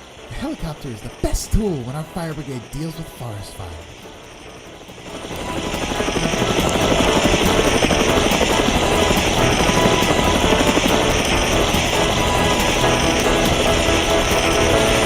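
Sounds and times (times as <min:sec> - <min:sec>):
helicopter rotor chopping: 0:00.0 - 0:15.0.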